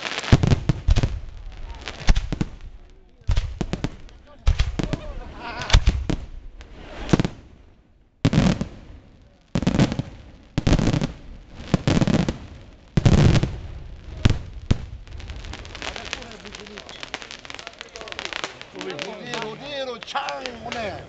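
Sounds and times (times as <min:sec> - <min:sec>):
fireworks bursting with crackling: 0:00.0 - 0:21.0.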